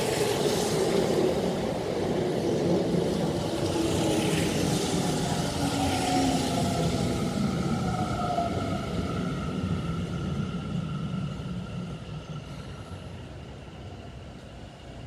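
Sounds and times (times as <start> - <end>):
train wheel rumble: 0.0 - 15.0.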